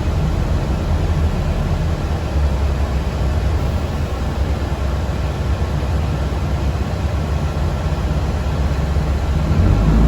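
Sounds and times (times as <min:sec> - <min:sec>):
bus interior road rumble: 0:00.0 - 0:10.0.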